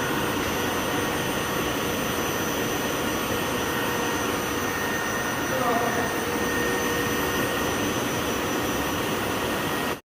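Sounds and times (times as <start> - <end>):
water pump running: 0.0 - 10.0.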